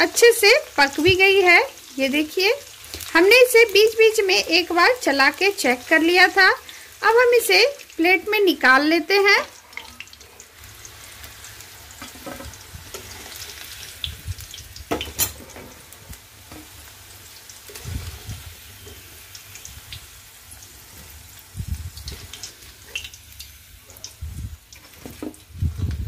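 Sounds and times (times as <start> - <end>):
oil sizzling: 0.0 - 26.0.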